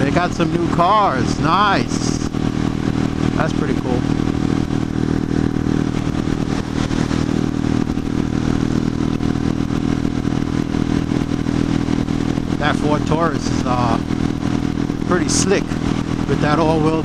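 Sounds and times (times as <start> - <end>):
road noise: 0.0 - 17.0
single-cylinder engine running: 0.0 - 17.0
wind noise: 0.0 - 17.0.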